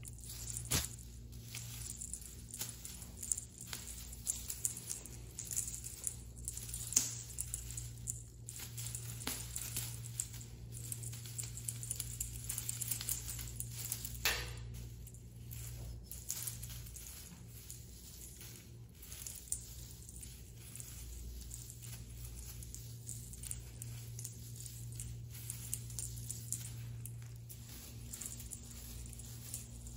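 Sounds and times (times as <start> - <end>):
cats playing with toy on tile: 0.0 - 29.9
low steady hum: 0.0 - 29.9.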